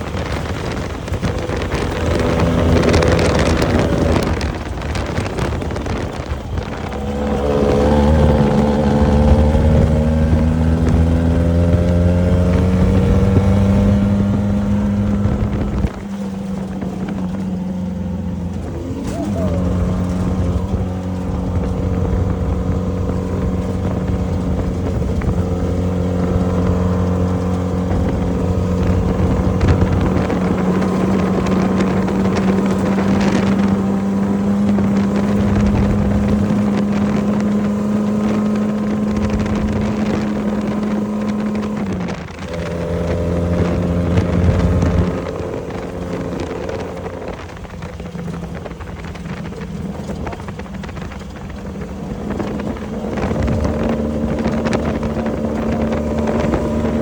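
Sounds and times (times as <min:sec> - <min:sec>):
race vehicle engine revving: 0:00.0 - 0:57.0.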